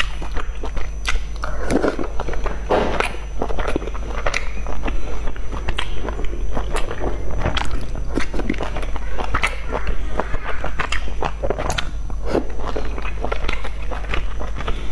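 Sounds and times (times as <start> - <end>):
low hum: 0.0 - 14.9
wet chewing and lip smacks: 0.0 - 14.9.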